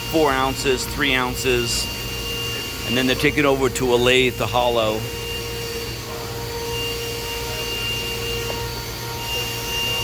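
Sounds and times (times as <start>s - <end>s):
high steady whines: 0.0s - 10.0s
machinery hum: 0.0s - 10.0s.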